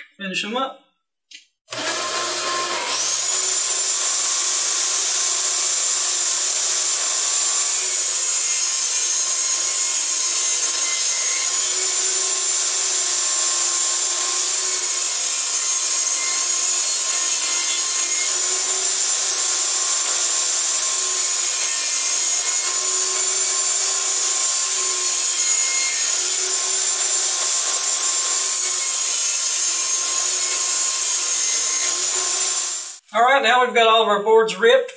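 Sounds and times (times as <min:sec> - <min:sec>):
saw ripping wooden boards: 0:01.7 - 0:33.0
table saw whining: 0:01.7 - 0:33.0.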